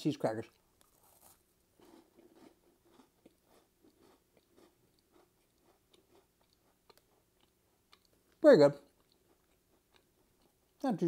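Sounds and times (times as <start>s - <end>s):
faint cracker chewing crunches: 0.3s - 10.8s.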